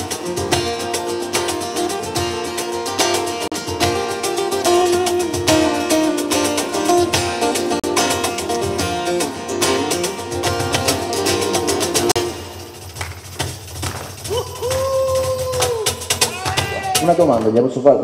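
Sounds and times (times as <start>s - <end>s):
acoustic guitars strumming: 0.0s - 17.4s.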